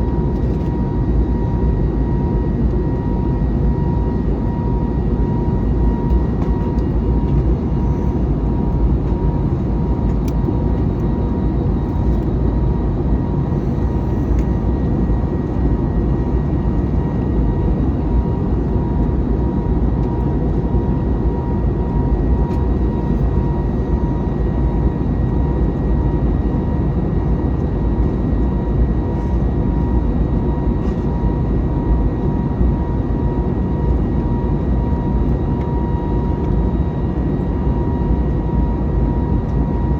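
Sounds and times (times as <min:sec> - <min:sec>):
jet engine rush in cabin: 0:00.0 - 0:39.9.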